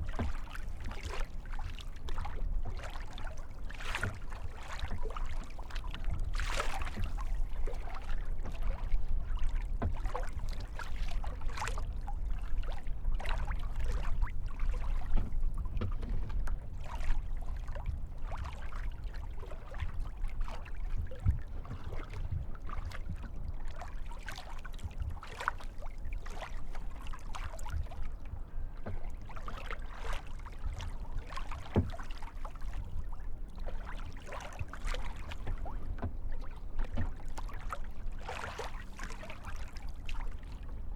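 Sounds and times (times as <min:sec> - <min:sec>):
paddle splashes: 0:00.0 - 0:40.9
water lapping at hull: 0:00.0 - 0:40.9.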